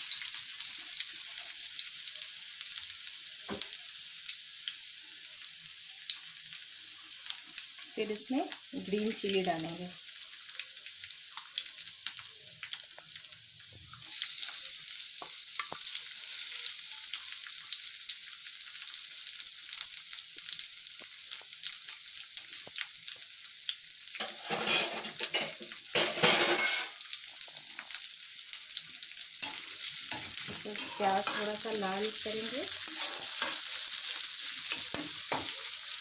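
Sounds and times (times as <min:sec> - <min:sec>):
garlic sizzling in hot oil: 0:00.0 - 0:36.0.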